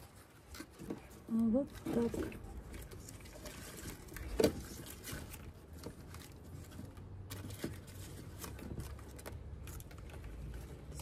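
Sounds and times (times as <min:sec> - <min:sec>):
soft rustling of plants: 0:00.0 - 0:11.0.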